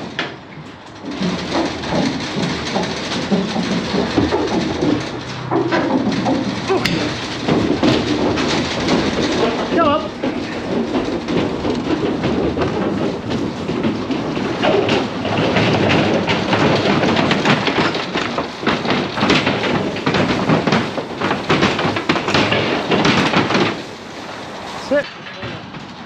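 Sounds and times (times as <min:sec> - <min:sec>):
cattle hooves on trailer floor: 0:00.0 - 0:26.0.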